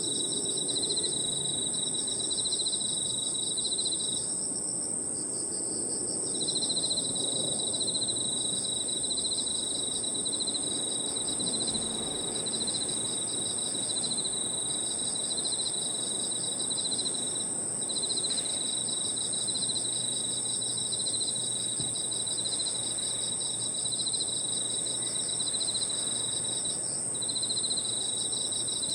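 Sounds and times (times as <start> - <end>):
high-pitched insect trill: 0.0 - 28.9
pulsing cricket chirps: 0.0 - 28.9.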